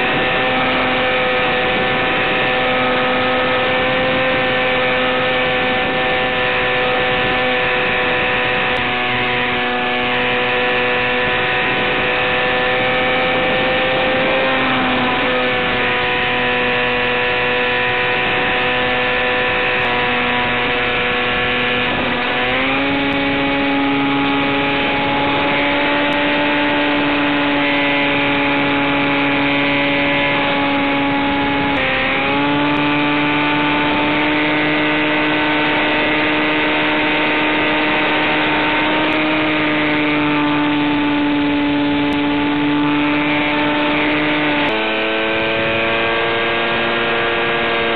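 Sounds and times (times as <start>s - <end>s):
electric motor and propeller drone: 0.0s - 47.9s.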